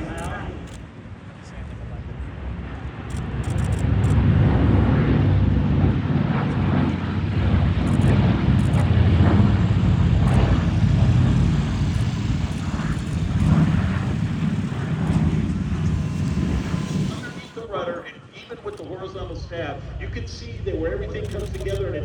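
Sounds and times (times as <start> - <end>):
propeller plane droning past: 0.0 - 22.0.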